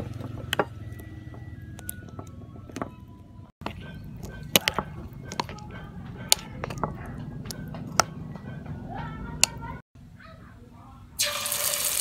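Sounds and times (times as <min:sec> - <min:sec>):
spoon stirring thick batter: 0:00.0 - 0:09.8.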